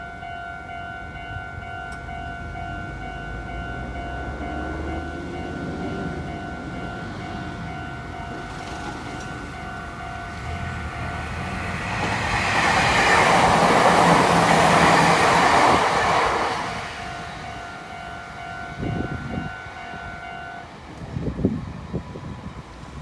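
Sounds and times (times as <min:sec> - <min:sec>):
crossing warning bell ringing: 0:00.0 - 0:23.0
train wheels rushing past: 0:03.1 - 0:23.0.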